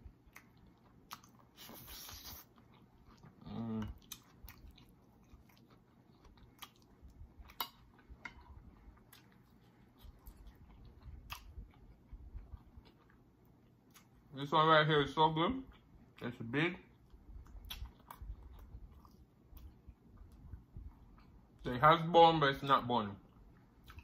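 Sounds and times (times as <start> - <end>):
person chewing food: 0.0 - 14.3, 15.7 - 16.2, 16.8 - 21.6, 23.3 - 24.0.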